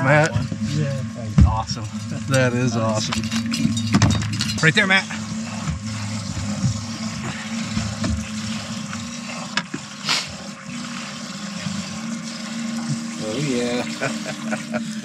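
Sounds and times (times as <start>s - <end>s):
outboard motor droning: 0.0s - 15.0s
water washing along hull: 0.0s - 15.0s.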